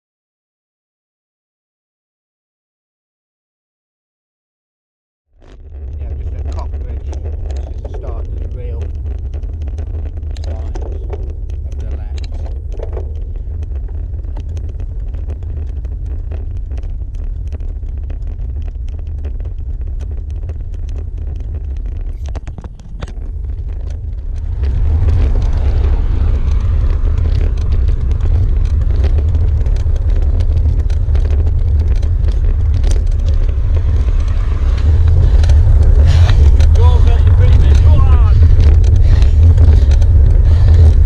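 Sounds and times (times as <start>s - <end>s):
wind rumbling on microphone: 5.3s - 41.0s.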